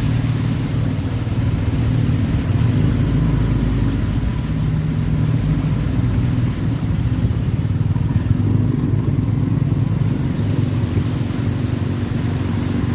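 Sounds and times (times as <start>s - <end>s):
engine running at low revs: 0.0s - 12.9s.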